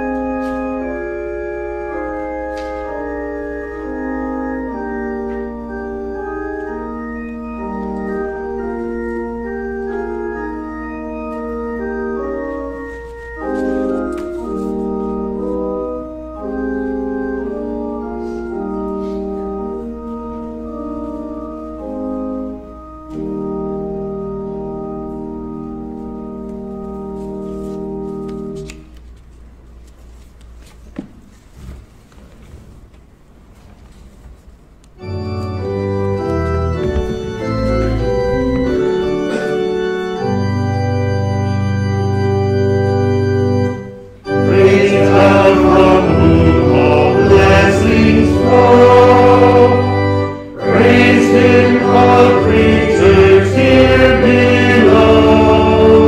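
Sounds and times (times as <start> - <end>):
organ chords: 0.0 - 29.1, 34.9 - 56.0.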